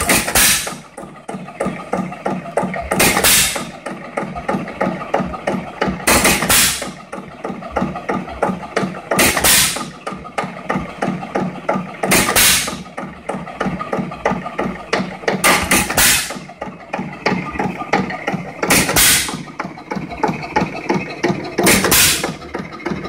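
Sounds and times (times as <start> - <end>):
gas engine exhaust beats: 0.0 - 23.0.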